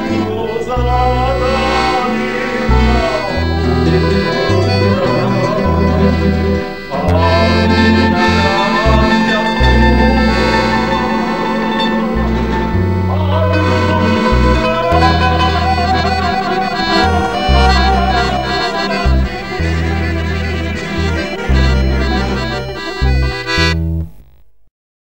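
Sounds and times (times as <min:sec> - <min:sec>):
background music with bass line: 0:00.0 - 0:24.4.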